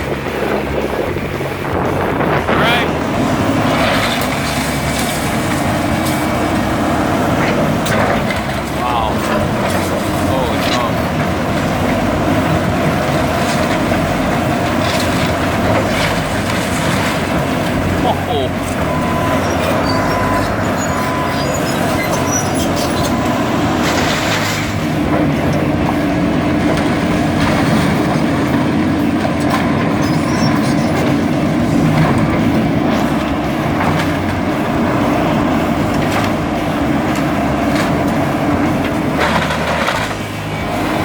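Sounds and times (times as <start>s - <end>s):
demolition machinery engine rumble: 0.0s - 41.0s.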